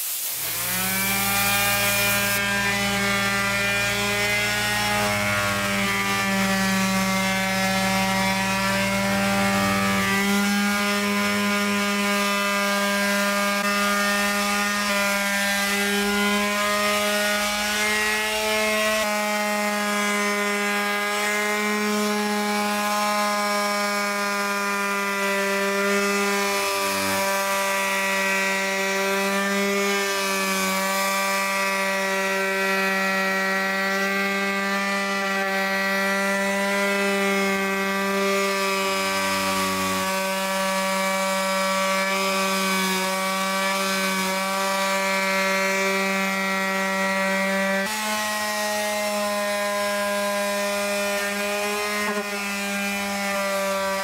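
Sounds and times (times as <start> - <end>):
electric sander on wood: 0.0 - 54.0.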